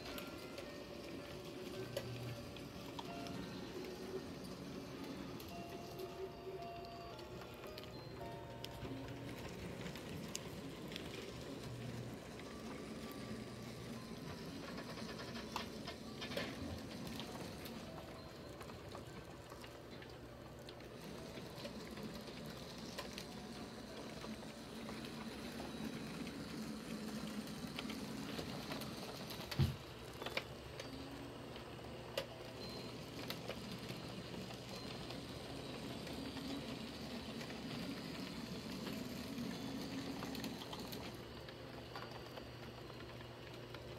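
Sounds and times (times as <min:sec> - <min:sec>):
small motors humming and whirring: 0:00.0 - 0:43.9.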